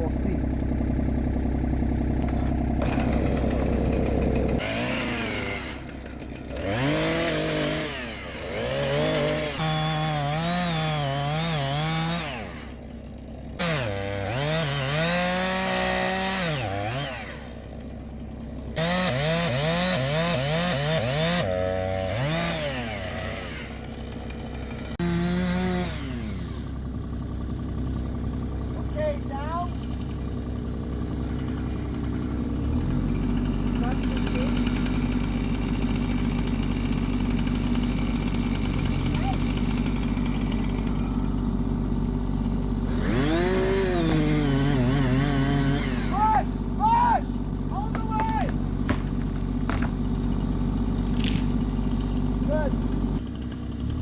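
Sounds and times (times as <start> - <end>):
engine idling: 0.0 - 14.6, 15.2 - 19.9, 22.2 - 54.0
chainsaw cutting tree: 0.0 - 54.0.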